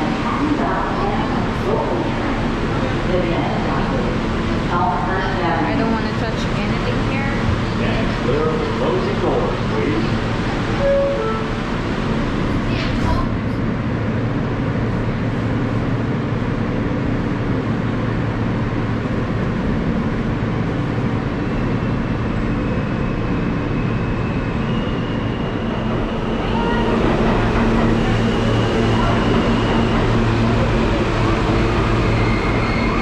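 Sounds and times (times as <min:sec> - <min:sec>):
subway train rumble: 0:00.0 - 0:33.0.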